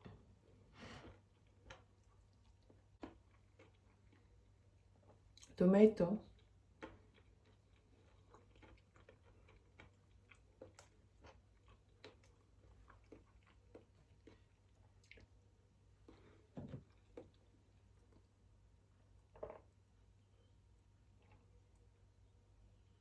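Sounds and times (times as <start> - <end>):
person chewing food: 0.0 - 5.5, 6.3 - 19.9, 20.8 - 22.3.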